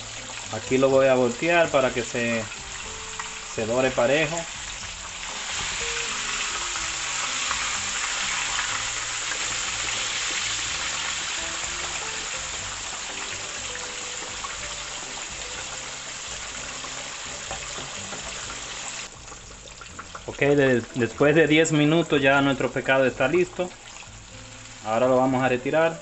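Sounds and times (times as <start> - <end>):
fish sizzling in hot oil: 0.0 - 26.0
soft background music: 0.0 - 26.0.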